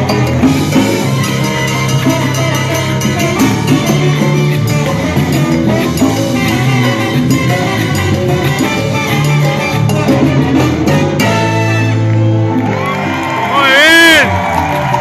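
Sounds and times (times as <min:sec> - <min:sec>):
bass line: 0:00.0 - 0:15.0
horns: 0:00.0 - 0:15.0
percussion: 0:00.0 - 0:15.0.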